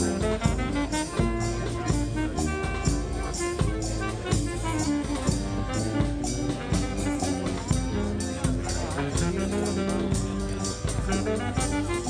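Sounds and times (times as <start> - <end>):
drums and percussion: 0.0 - 12.0
marching band horns: 0.0 - 12.0.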